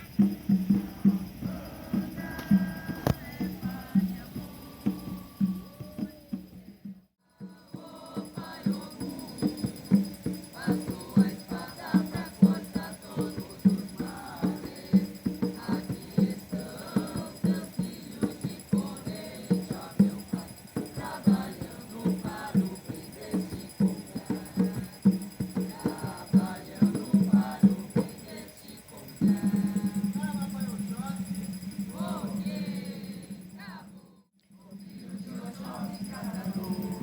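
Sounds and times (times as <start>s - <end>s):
group singing: 0.0s - 37.0s
percussion beat with shaker: 0.0s - 37.0s.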